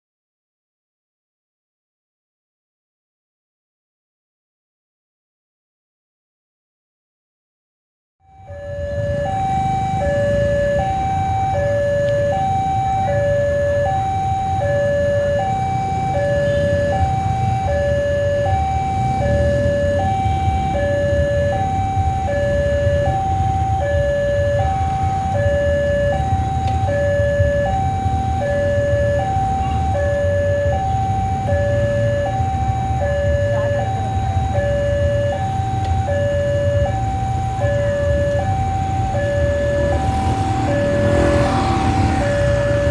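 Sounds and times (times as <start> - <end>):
two-tone electronic warning alarm: 8.2 - 42.9
diesel locomotive rumble: 8.6 - 42.9.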